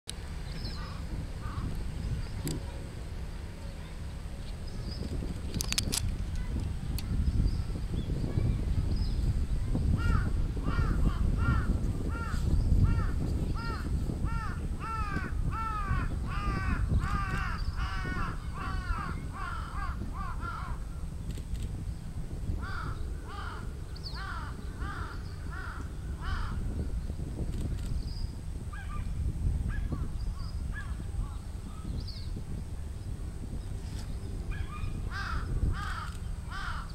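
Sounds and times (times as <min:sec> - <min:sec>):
steady low rumble: 0:00.1 - 0:36.9.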